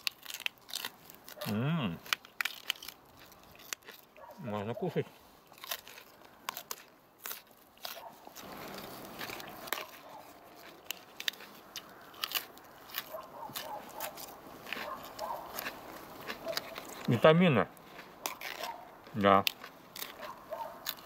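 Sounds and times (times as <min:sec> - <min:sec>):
cabbage being chewed: 0:00.0 - 0:21.0
cabbage leaves tearing: 0:00.0 - 0:21.0.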